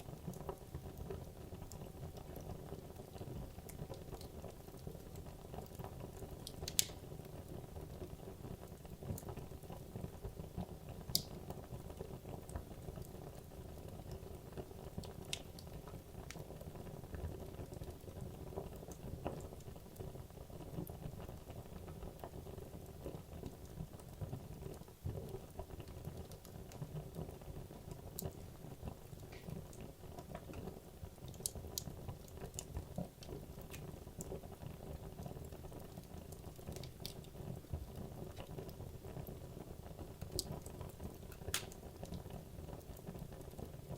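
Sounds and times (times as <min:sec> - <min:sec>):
wood crackling and popping: 0:00.0 - 0:43.9.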